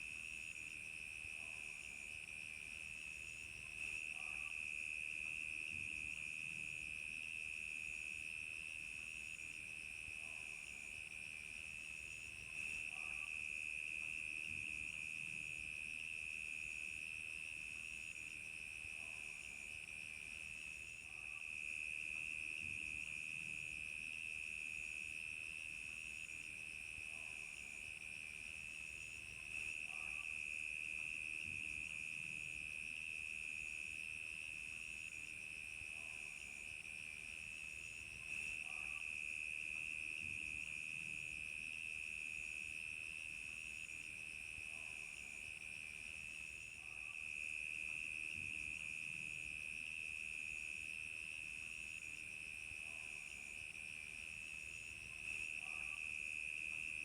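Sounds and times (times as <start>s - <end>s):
crickets chirping: 0.1s - 57.0s.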